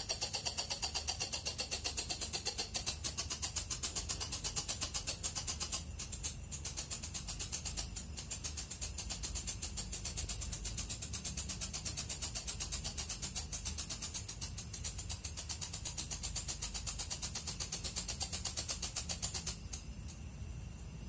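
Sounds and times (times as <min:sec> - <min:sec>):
bush cricket chirping: 0:00.0 - 0:21.0.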